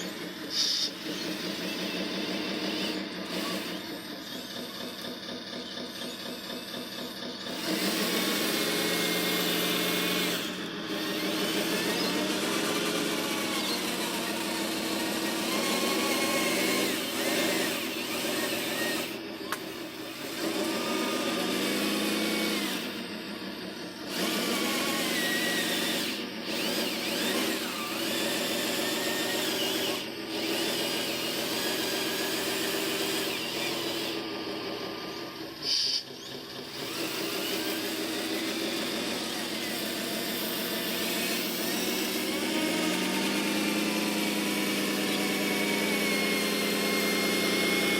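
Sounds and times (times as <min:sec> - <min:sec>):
small electric motors whining: 0:00.0 - 0:47.9.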